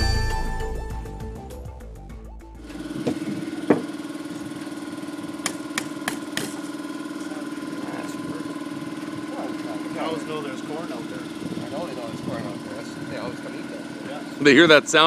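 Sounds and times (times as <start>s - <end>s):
small engine running: 2.3s - 15.0s.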